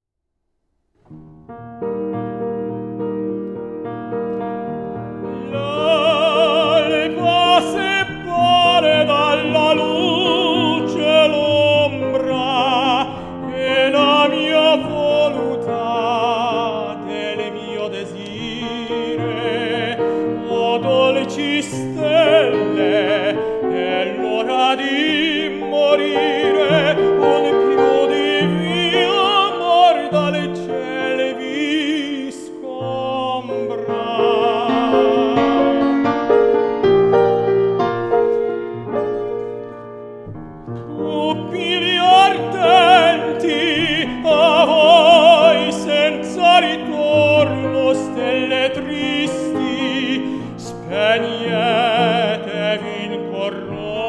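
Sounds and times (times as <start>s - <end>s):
grand piano: 0.6s - 54.0s
operatic tenor singing: 5.0s - 37.2s, 40.8s - 54.0s.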